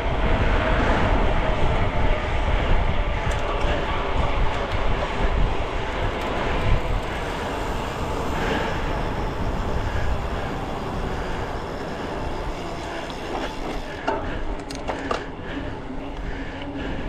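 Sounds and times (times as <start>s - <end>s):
wind buffeting camera: 0.0s - 17.0s.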